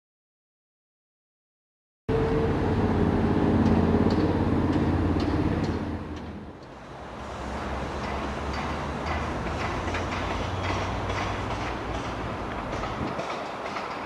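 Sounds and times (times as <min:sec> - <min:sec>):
train rumbling: 0:02.1 - 0:14.0.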